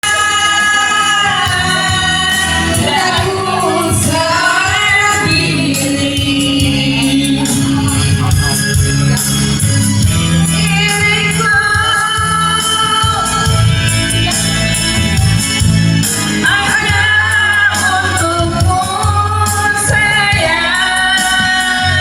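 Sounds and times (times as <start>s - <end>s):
steady bass line: 0.0s - 22.0s.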